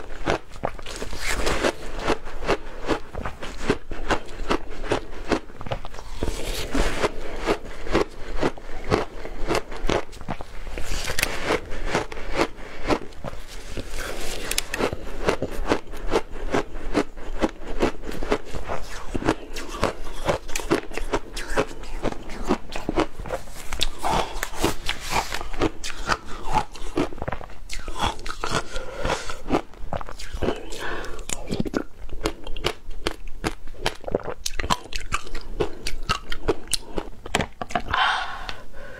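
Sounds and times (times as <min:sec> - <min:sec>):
crunching and chewing ice: 0:00.0 - 0:38.0.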